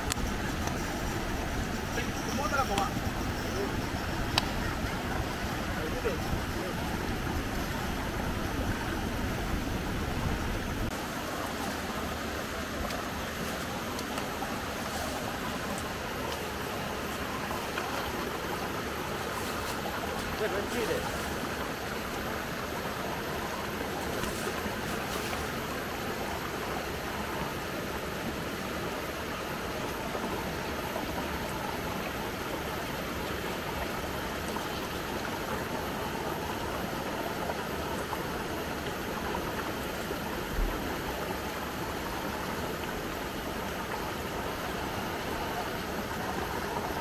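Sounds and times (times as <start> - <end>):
river water rushing over rocks: 0.0 - 47.0.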